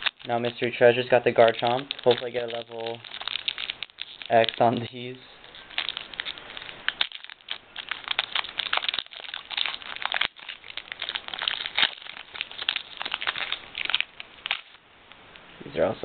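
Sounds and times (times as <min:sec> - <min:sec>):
foil wrapper crinkling and tearing: 0:00.0 - 0:14.8.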